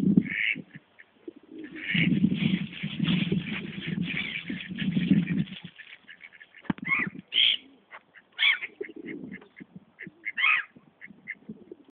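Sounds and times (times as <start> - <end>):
ducks quacking: 0.2 - 11.5.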